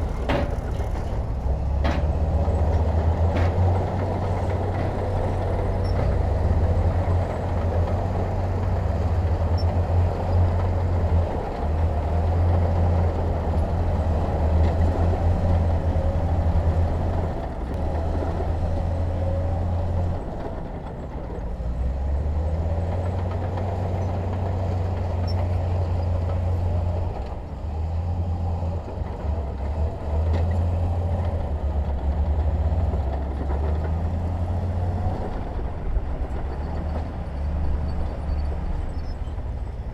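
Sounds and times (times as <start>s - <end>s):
heavy diesel engine: 0.0s - 39.9s.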